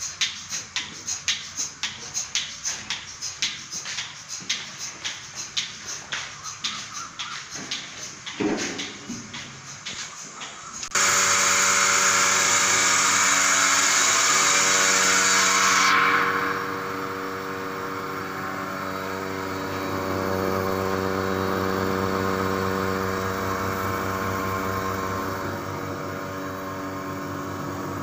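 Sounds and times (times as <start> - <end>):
vacuum pump humming drone: 0.0 - 28.0.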